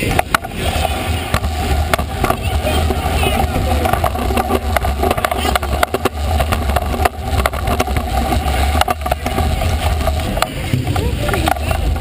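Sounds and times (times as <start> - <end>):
scooter rattling clicks and knocks: 0.0 - 12.0
scooter wheels rumbling on concrete: 0.0 - 12.0.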